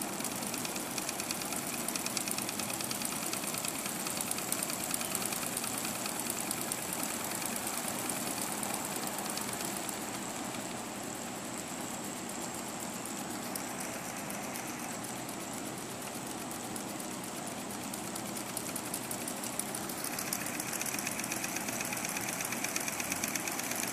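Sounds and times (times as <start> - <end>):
toy steam engine running fast: 0.0 - 23.9.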